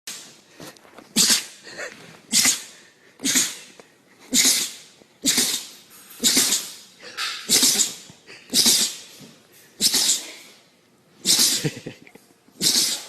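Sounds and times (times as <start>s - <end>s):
person sneezing: 1.1s - 10.6s, 11.2s - 11.9s, 12.6s - 13.0s.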